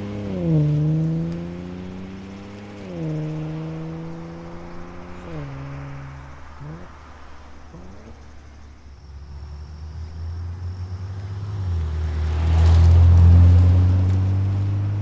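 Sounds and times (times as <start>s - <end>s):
car exhaust rumble: 0.0s - 15.0s.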